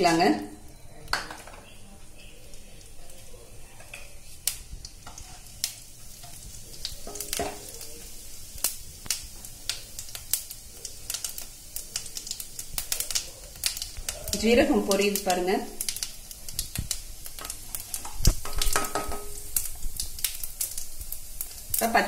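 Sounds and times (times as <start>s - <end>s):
seeds sizzling in oil: 0.0s - 22.0s.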